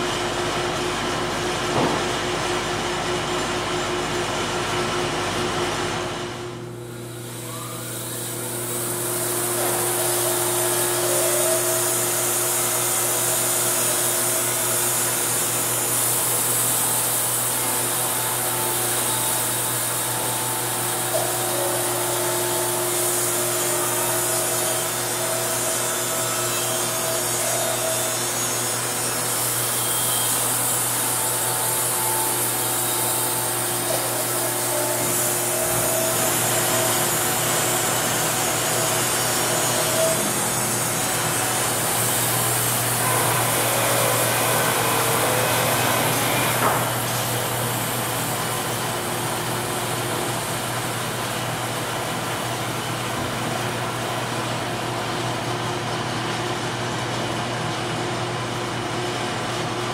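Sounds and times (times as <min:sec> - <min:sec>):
band sawmill cutting log: 0:06.8 - 0:55.6.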